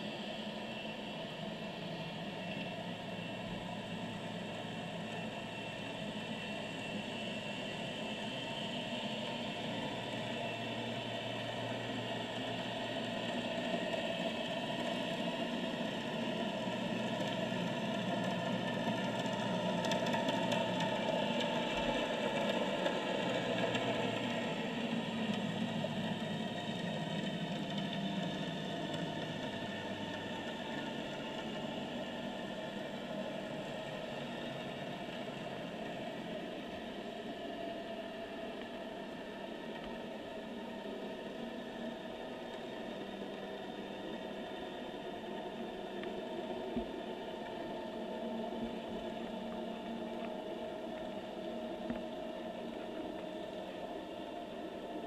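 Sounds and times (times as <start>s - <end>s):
underwater motorboat engine hum: 0.0s - 55.0s.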